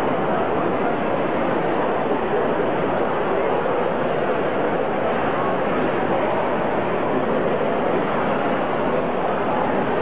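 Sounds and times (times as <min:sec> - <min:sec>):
indoor crowd hubbub: 0:00.0 - 0:10.0.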